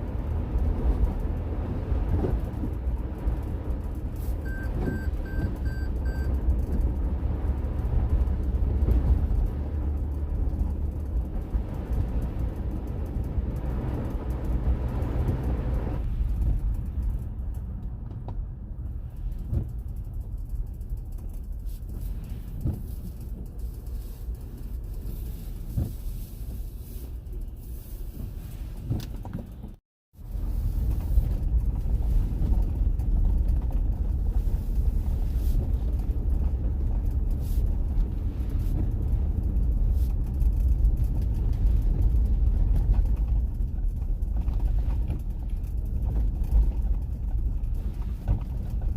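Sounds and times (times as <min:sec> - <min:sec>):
car road and engine rumble: 0:00.0 - 0:48.9.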